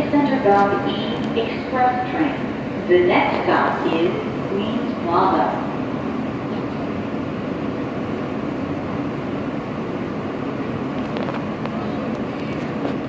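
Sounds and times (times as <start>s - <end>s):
subway car rumbling on track: 0.0s - 13.0s.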